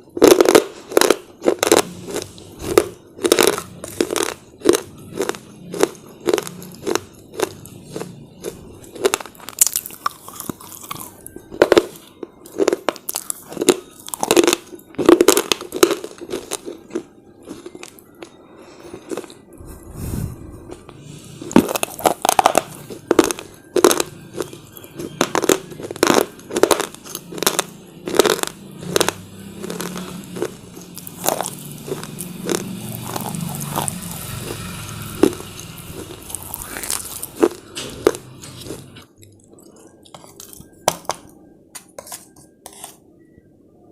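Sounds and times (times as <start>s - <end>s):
crunching chips: 0.0s - 19.4s, 21.4s - 43.0s.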